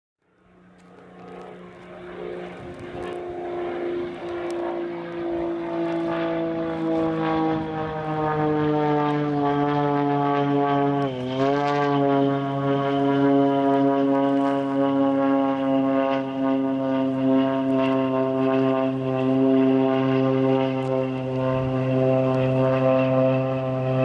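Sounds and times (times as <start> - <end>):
propeller plane engine droning: 0.2 - 24.0.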